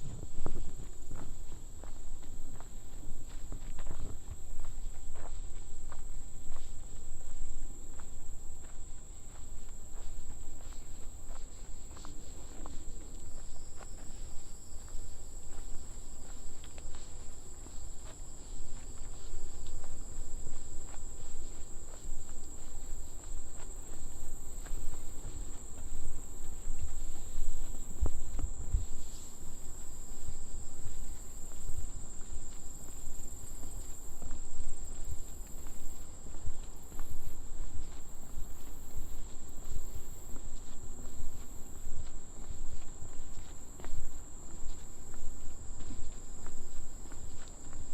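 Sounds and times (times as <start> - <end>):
footsteps on a trail: 0.0 - 47.9
insects droning: 0.0 - 47.9.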